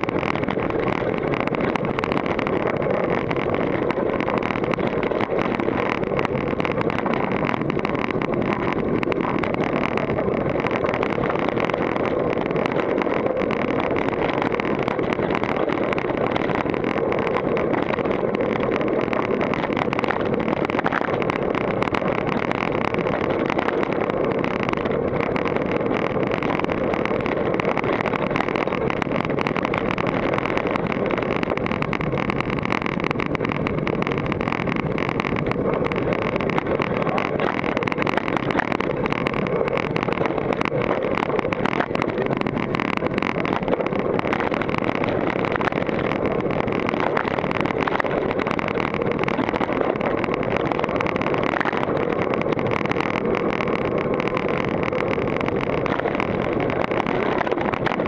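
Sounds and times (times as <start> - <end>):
bike rattling over rocky dirt: 0.0 - 58.0.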